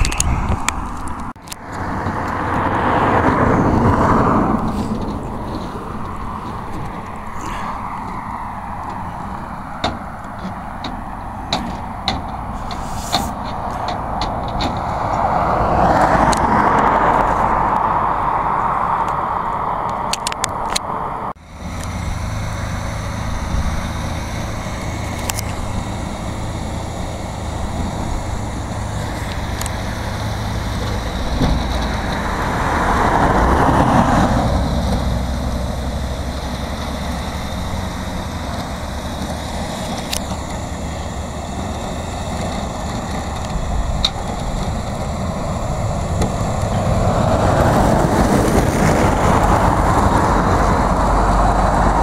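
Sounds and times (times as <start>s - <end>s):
winch pulling car: 0.0s - 20.8s, 21.4s - 52.0s
heavy lorry passing: 0.0s - 52.0s
passing traffic: 0.0s - 52.0s
truck engine humming: 0.0s - 52.0s.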